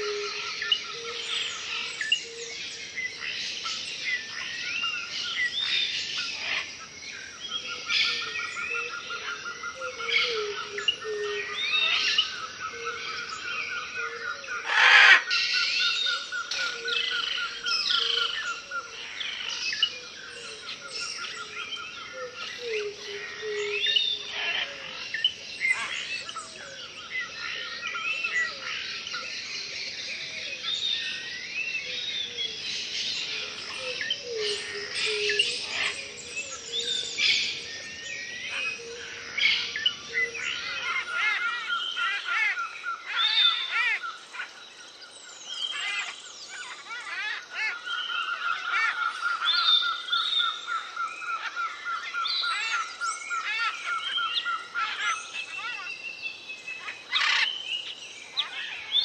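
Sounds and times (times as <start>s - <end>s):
birds chirping and calling: 0.0s - 59.0s.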